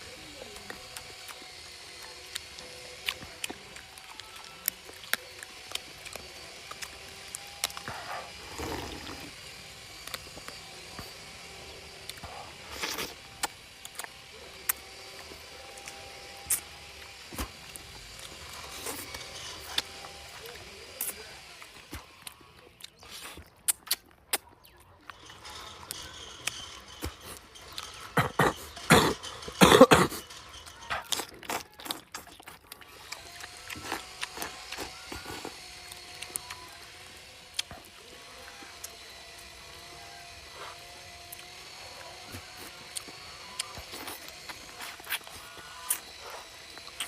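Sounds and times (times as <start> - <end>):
person chewing with mouth clicks: 0.1 - 47.0.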